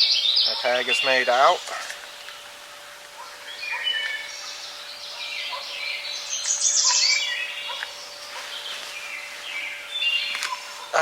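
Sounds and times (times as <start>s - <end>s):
songbirds singing and calling: 0.0s - 11.0s.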